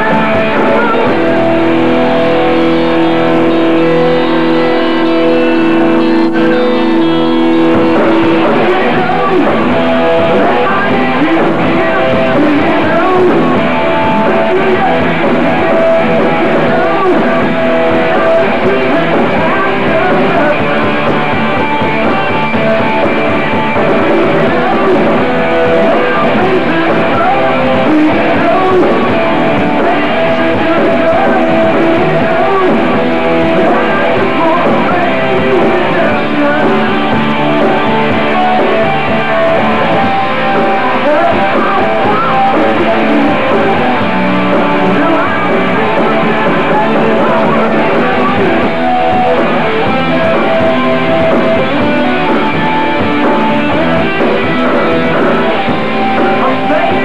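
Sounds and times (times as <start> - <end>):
drums: 0.0 - 57.0
guitars: 0.0 - 57.0.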